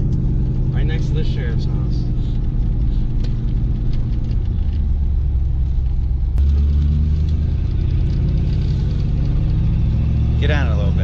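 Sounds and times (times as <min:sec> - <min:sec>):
car engine rumble from cabin: 0:00.0 - 0:11.0.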